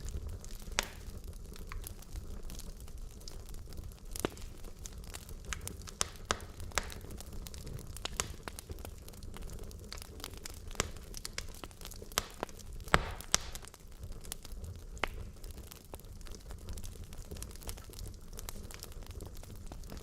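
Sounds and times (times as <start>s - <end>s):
logs crackling and popping: 0.0s - 20.0s
low rumble of flame: 0.0s - 20.0s.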